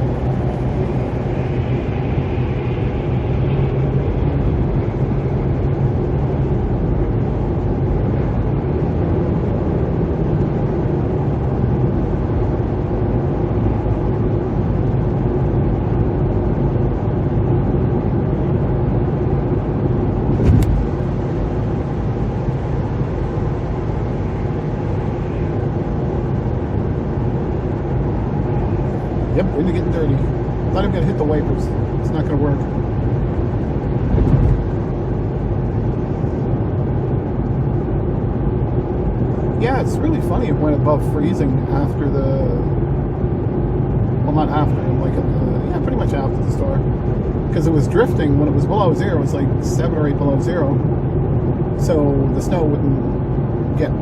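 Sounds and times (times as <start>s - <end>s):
car engine low hum: 0.0s - 54.0s.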